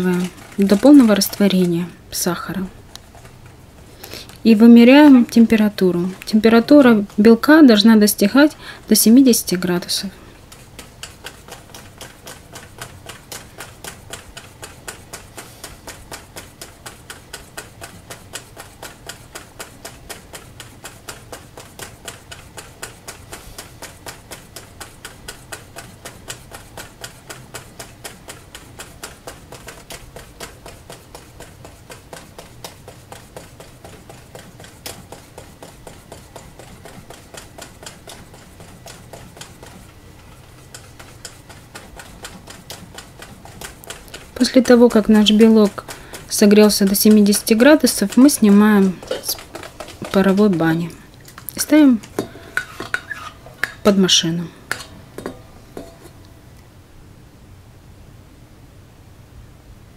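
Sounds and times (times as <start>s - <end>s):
utensil stirring in a steel bowl: 0.0s - 56.3s.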